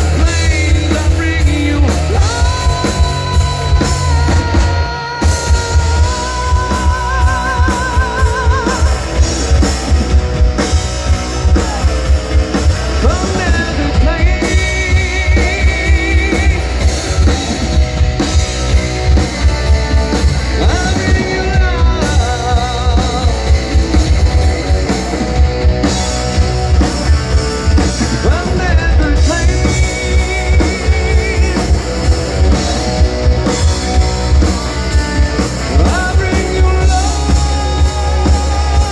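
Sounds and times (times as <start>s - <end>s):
person singing: 0.0s - 9.7s, 11.4s - 18.1s, 19.0s - 25.9s, 27.7s - 38.9s
bass guitar: 0.0s - 38.9s
drum kit beat: 0.0s - 38.9s
electric guitars: 0.0s - 38.9s.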